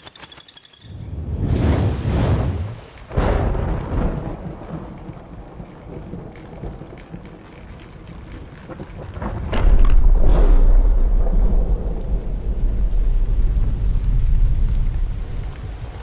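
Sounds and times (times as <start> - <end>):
thunder crack: 1.2 - 16.0
thunder rumbling: 1.2 - 16.0
rain hiss: 1.6 - 16.0.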